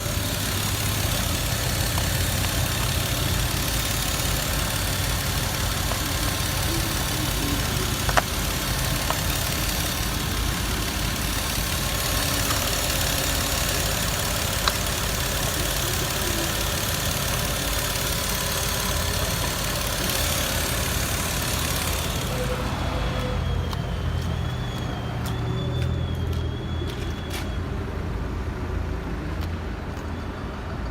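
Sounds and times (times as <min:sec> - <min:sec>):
faint clicks: 0:00.0 - 0:27.6
petrol engine idling: 0:00.0 - 0:30.9.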